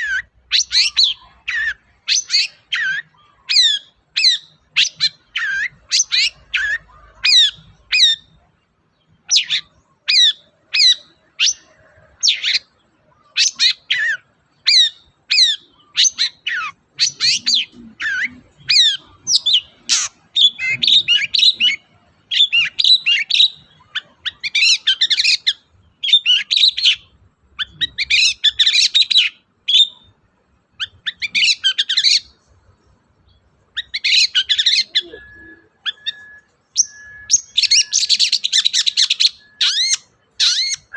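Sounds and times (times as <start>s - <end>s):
shrike singing: 0.0s - 40.9s.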